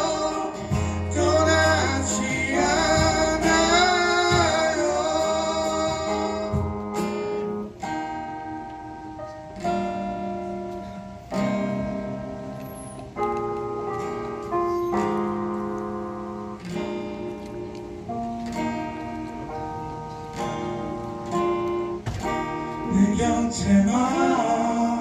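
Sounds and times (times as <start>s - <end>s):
guitar chords ringing: 0.0s - 25.0s.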